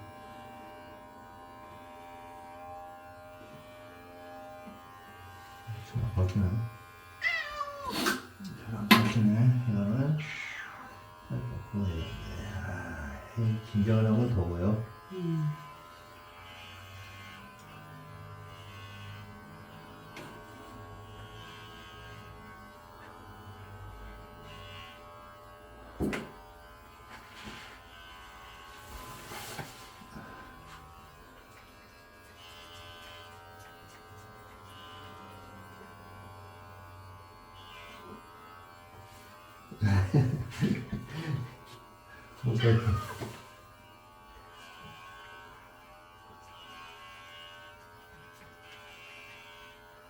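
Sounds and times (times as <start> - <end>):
electric hair clippers buzzing: 0.0 - 50.0.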